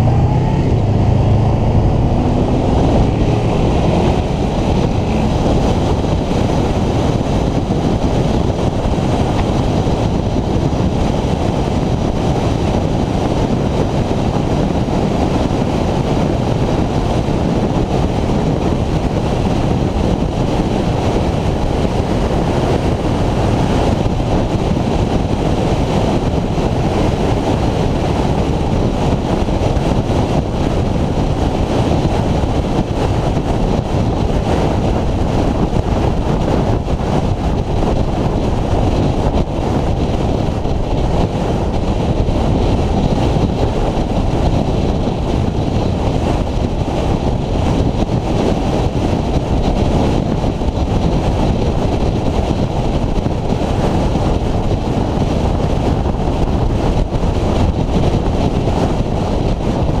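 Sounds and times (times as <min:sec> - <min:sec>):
motorcycle engine: 0:00.0 - 0:50.1
wind buffeting microphone: 0:00.0 - 1:00.0.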